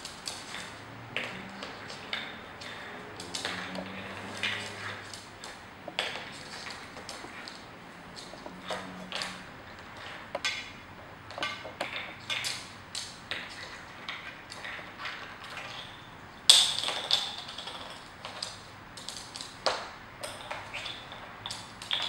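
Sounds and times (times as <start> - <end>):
plastic caps clattering on floor: 0.0 - 22.0.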